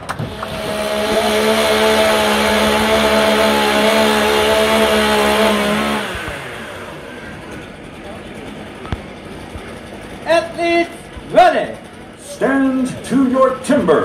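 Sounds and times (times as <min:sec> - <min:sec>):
chainsaw running at full throttle: 0:00.0 - 0:14.0.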